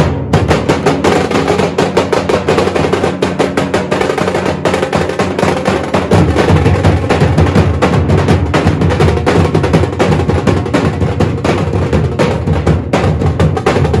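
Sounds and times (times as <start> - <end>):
barrel drums playing fast rhythm: 0.0 - 14.0
bass drum: 0.0 - 14.0.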